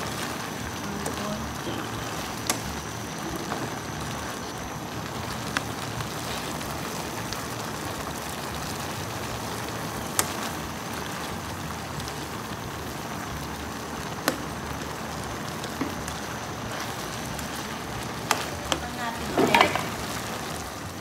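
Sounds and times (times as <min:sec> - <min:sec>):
broth boiling in a pan: 0:00.0 - 0:21.0.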